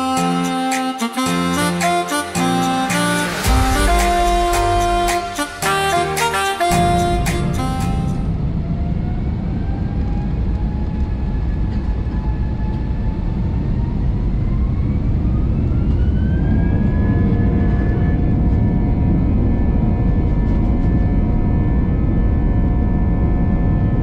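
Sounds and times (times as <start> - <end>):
rising engine whine: 0.0 - 24.0.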